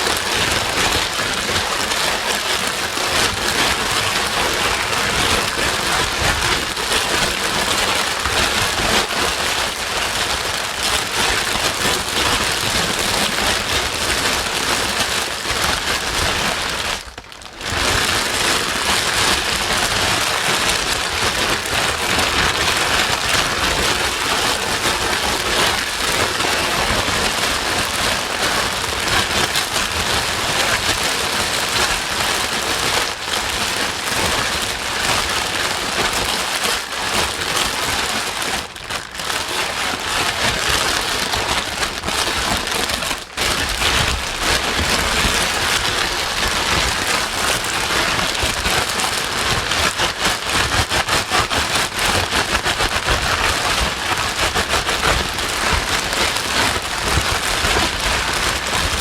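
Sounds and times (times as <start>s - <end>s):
heavy rain noise: 0.0s - 59.0s.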